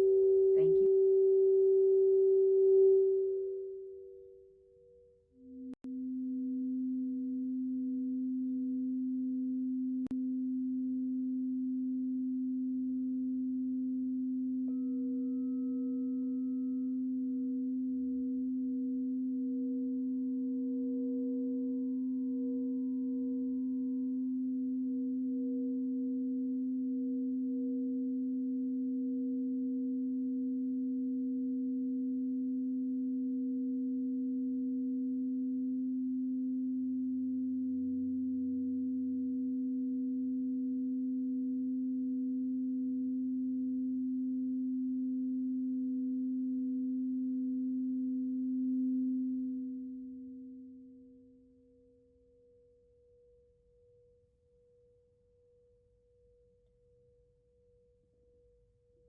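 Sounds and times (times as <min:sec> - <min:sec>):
crystal singing bowl tone: 0:00.0 - 0:51.6.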